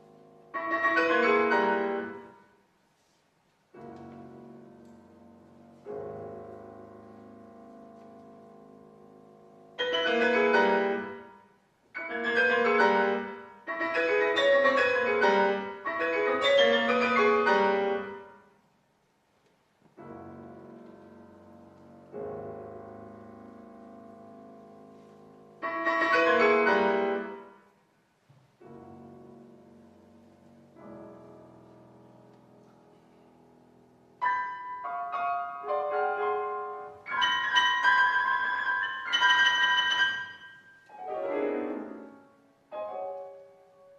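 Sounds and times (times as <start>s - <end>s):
grand piano playing: 0.0s - 2.7s, 3.7s - 18.6s, 19.9s - 43.9s.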